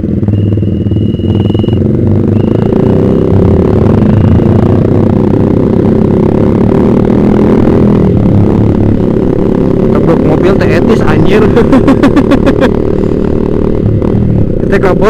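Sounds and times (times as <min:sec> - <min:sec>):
motorcycle engine riding: 0:00.0 - 0:15.0.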